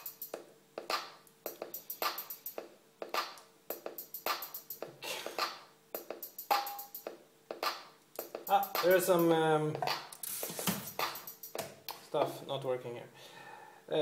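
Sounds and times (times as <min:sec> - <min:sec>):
hi-hat ticks: 0:00.0 - 0:12.0.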